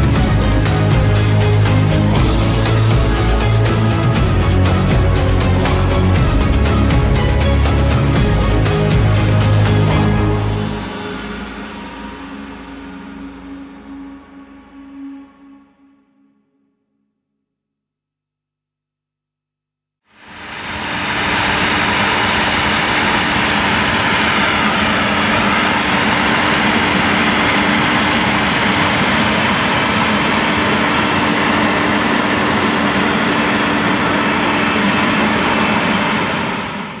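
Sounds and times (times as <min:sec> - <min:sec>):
tractor engine drone: 0:00.0 - 0:14.8, 0:20.1 - 0:37.0.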